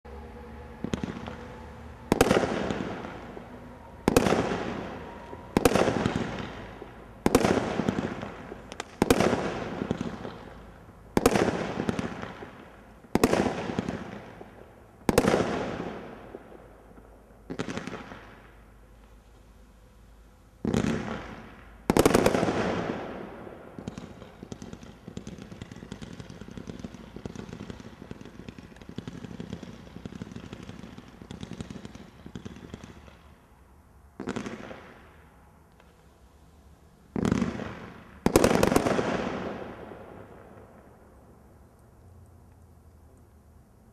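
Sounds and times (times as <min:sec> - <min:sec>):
firework bangs: 0:00.6 - 0:18.6, 0:20.6 - 0:33.3, 0:34.2 - 0:36.0, 0:37.1 - 0:41.2
firework pops and crackle: 0:02.1 - 0:18.6, 0:20.6 - 0:33.3, 0:34.2 - 0:36.1, 0:37.1 - 0:42.0.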